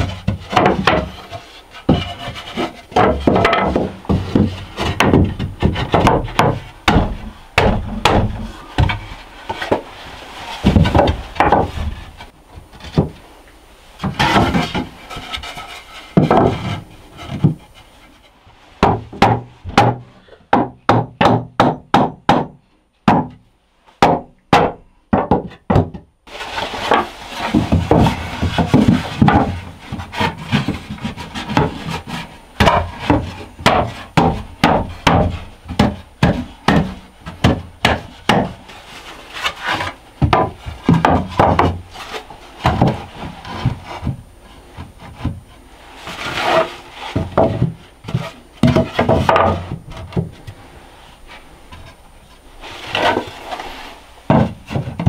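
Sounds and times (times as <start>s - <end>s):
wooden boards knocking and clattering: 0.0s - 13.3s, 14.0s - 18.2s, 18.8s - 23.4s, 24.0s - 50.7s, 52.9s - 55.0s
wood rubbing on wood: 0.0s - 13.4s, 14.0s - 20.7s, 26.3s - 55.0s.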